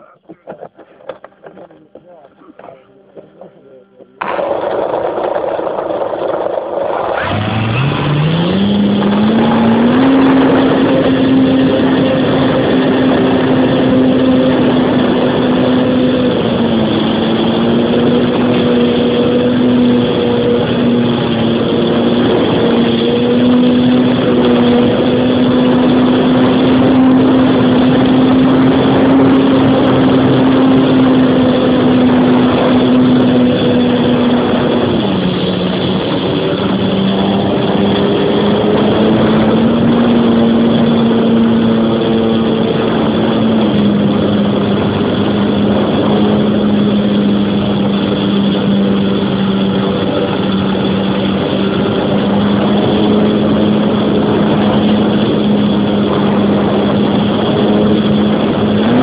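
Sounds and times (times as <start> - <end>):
model plane motor drone: 0.0 - 59.0.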